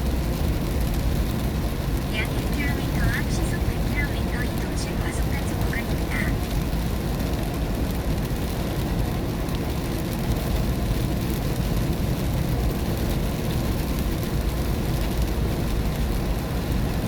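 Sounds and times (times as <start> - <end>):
rain hiss: 0.4 - 17.0.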